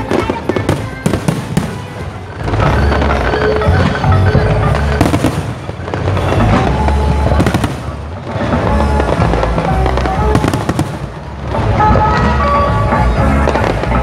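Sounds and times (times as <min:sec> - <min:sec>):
firework booms: 0:00.0 - 0:14.0
fireworks crackle: 0:00.0 - 0:14.0.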